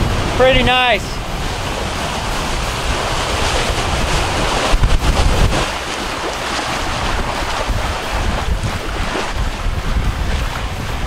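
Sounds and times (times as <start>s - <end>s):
rushing sea water: 0.0s - 11.0s
wind buffeting the microphone: 0.0s - 11.0s.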